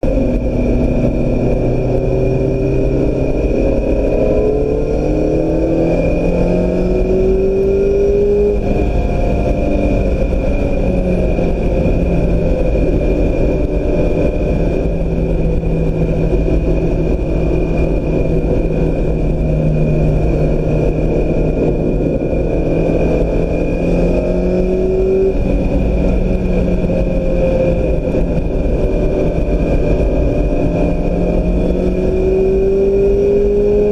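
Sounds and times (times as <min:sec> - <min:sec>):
car engine accelerating: 0:00.0 - 0:33.9
low road rumble: 0:00.0 - 0:33.9
steady high whine: 0:00.0 - 0:33.9.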